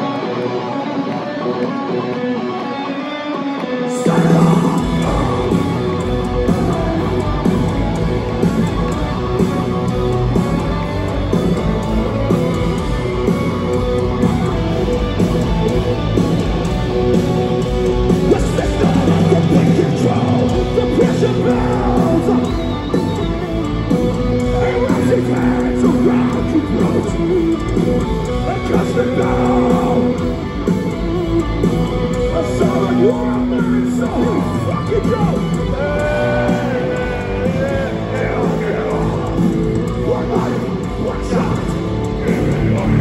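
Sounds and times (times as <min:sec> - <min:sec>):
singer singing and yelling: 0:00.0 - 0:16.3, 0:16.9 - 0:43.0
metalcore band playing live: 0:00.0 - 0:43.0.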